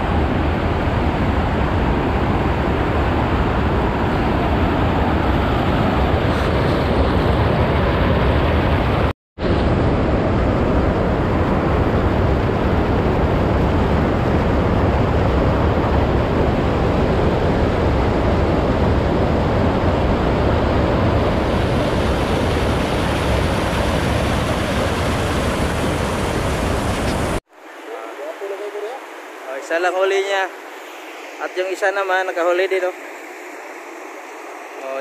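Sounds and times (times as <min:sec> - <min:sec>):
water rushing over a weir: 0:01.9 - 0:35.0.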